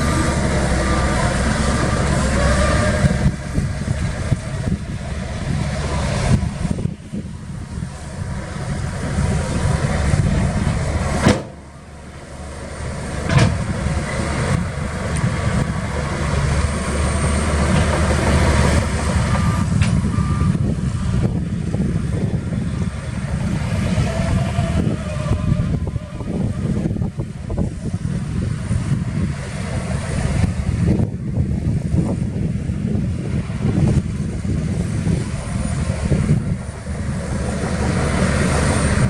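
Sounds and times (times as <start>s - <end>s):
diesel machinery rumbling: 0.0s - 39.0s.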